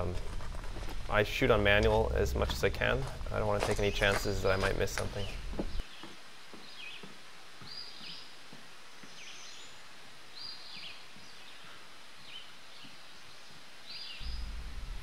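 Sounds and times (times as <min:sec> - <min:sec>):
woodland background hiss: 0:00.0 - 0:15.0.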